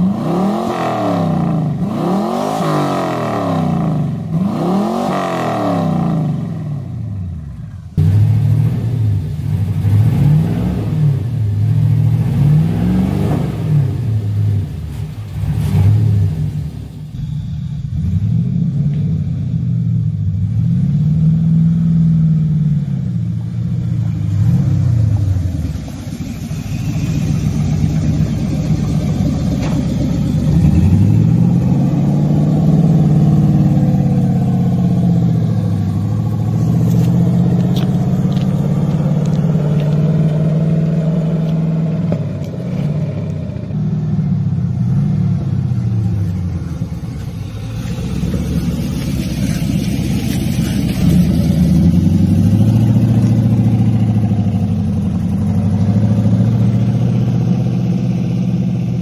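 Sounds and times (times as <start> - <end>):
engine revving: 0.0 - 59.0.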